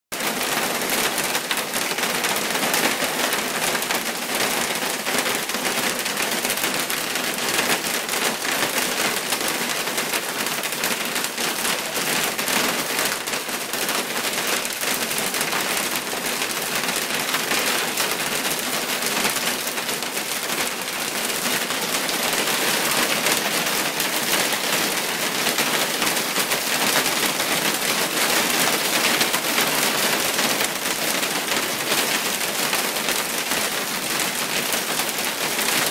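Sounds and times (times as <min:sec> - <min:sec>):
hailstones clattering on ground: 0:00.2 - 0:35.9.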